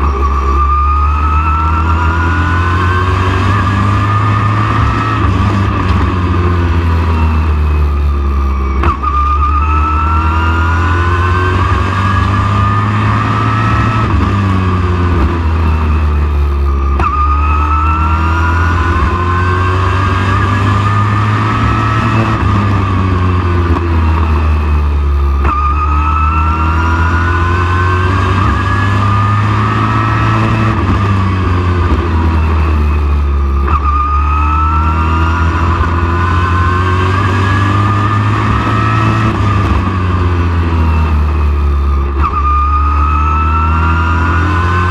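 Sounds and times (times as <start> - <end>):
race truck engine revving: 0.0 - 44.9.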